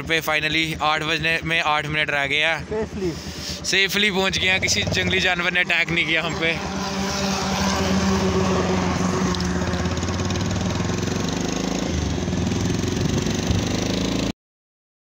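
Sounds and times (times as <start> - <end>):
road and wind noise: 0.0 - 14.3
vehicle engine running: 0.0 - 14.3.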